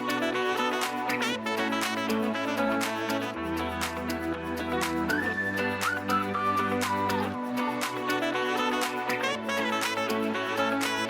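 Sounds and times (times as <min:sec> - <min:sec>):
background music with gliding melody: 0:00.0 - 0:11.0.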